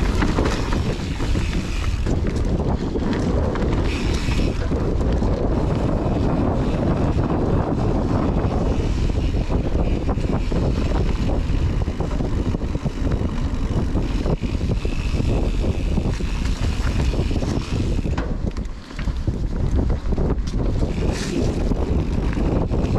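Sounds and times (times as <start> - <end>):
bike clattering and knocking: 0.0 - 22.9
tyres rumbling over dirt: 0.0 - 22.9
wind buffeting microphone: 0.0 - 22.9.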